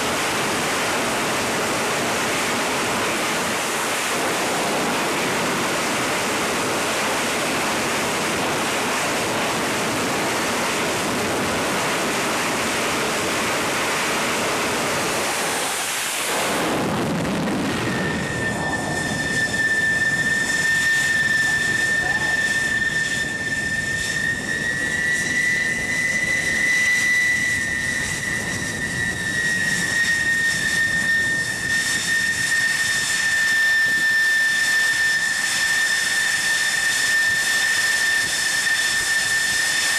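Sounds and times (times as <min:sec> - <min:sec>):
high-pitched turbine whine: 0:00.0 - 0:39.9
jet engine roar: 0:00.0 - 0:39.9.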